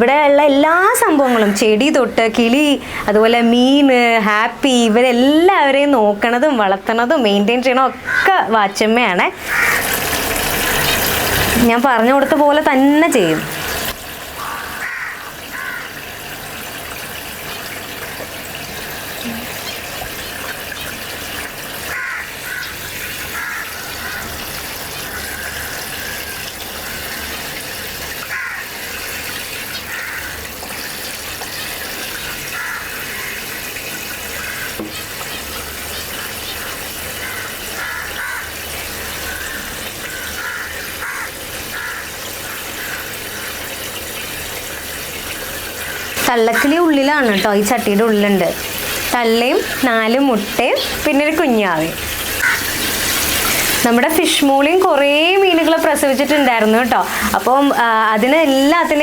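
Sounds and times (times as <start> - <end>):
tap water pouring into tank: 9.4 - 59.0.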